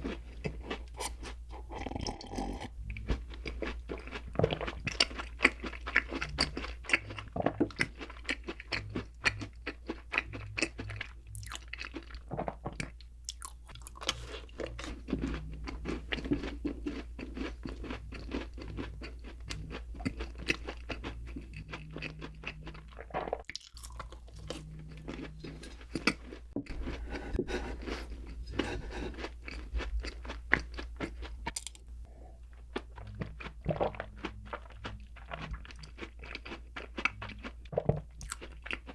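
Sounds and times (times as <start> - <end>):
chewing with wet mouth clicks: 0.4 - 26.9, 32.5 - 38.9.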